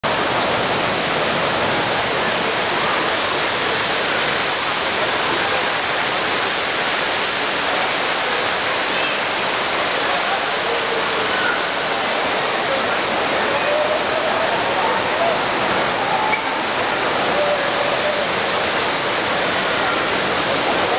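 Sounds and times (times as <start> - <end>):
waterfall rushing onto rocks: 0.0 - 20.9.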